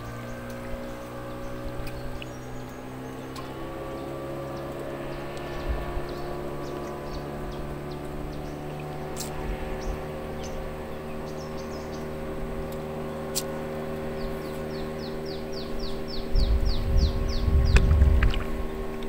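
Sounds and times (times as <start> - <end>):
birds chirping: 0.0 - 19.0
engine humming: 0.0 - 19.0.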